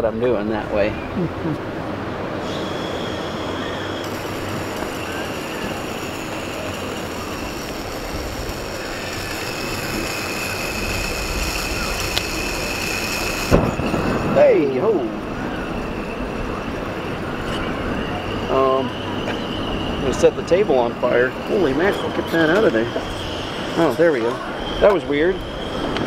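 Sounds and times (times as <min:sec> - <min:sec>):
gas stove hissing roar: 0:02.2 - 0:26.0.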